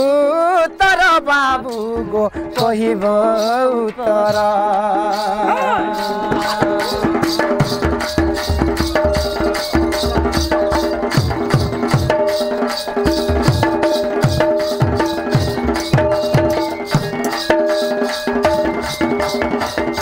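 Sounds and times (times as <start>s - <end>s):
high percussion strokes: 0.8s - 20.0s
melody instrument steady notes: 1.0s - 20.0s.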